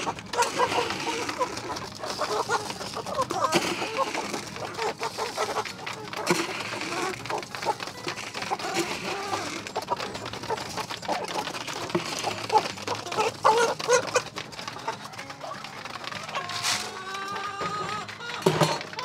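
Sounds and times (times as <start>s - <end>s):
beaks pecking at feed: 0.0s - 19.0s
chickens clucking: 0.0s - 19.0s.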